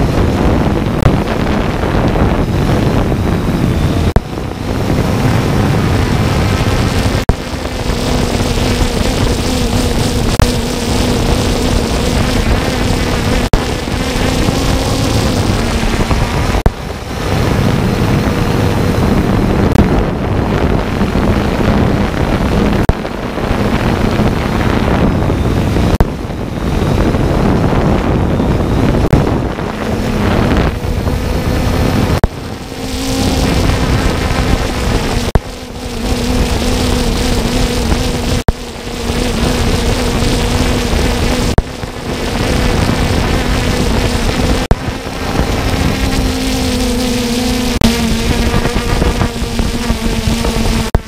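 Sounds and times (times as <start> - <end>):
drone propellers buzzing: 0.0 - 51.0
wind rush on microphone: 0.0 - 51.0.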